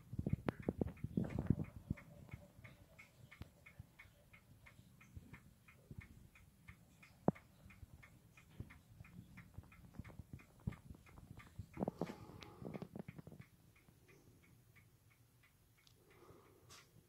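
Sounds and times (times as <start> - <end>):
mechanical clock ticking: 0.0 - 17.0.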